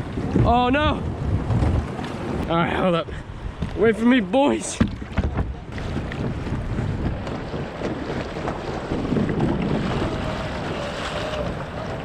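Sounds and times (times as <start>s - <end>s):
water sloshing around kayak: 0.0s - 12.0s
wind noise on microphone: 0.0s - 12.0s.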